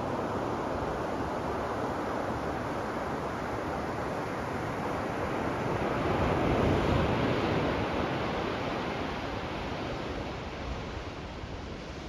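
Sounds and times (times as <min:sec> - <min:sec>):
ocean wave breaking on beach: 0:00.0 - 0:12.0.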